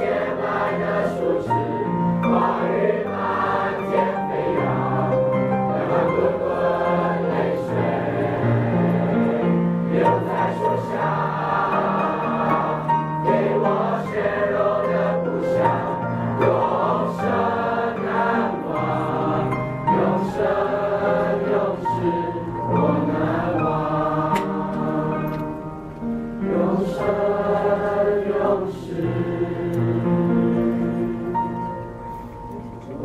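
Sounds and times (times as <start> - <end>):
mixed choir singing: 0.0 - 32.1.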